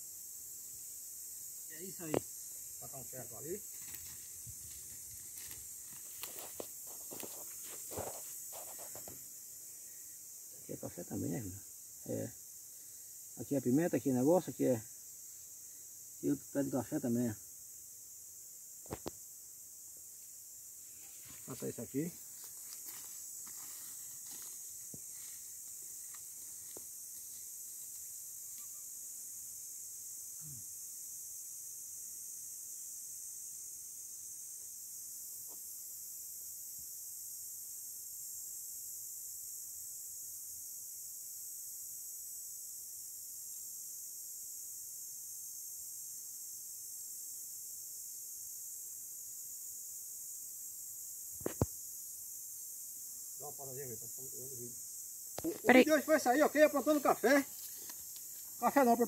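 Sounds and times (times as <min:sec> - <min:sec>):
faint high hiss: 0:00.0 - 0:59.0
insect chorus chirring: 0:00.0 - 0:59.0.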